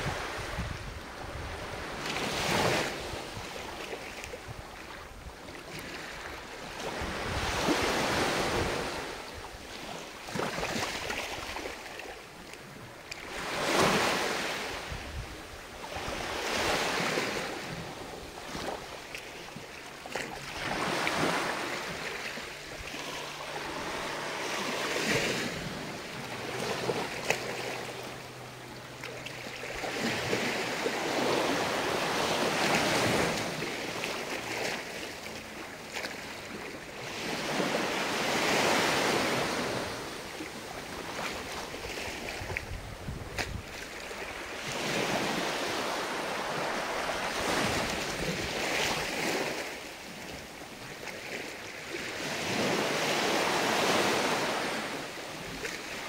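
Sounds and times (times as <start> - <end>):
small waves washing up beach: 0.0 - 56.0.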